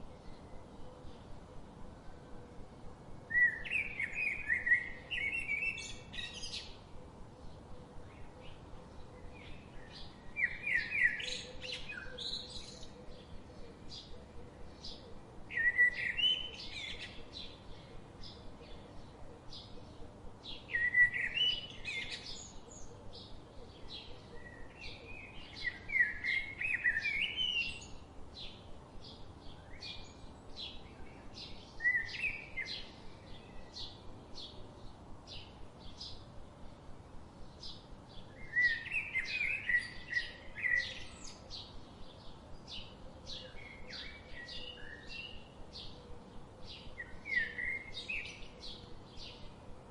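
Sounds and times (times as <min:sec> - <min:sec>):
songbird warbling song: 0:00.0 - 0:49.9.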